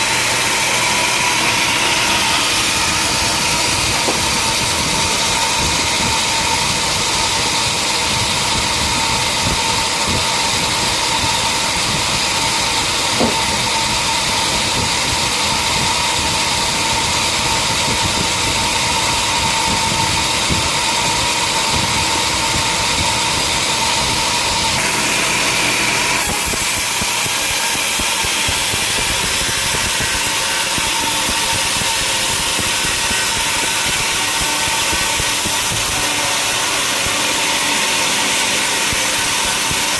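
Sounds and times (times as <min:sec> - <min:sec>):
constant machine whine: 0:00.0 - 0:39.9
sawmill machinery running: 0:00.0 - 0:39.9.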